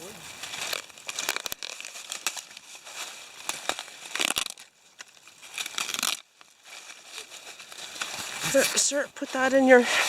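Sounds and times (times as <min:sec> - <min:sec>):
dry leaves rustling and crackling: 0:00.0 - 0:10.0.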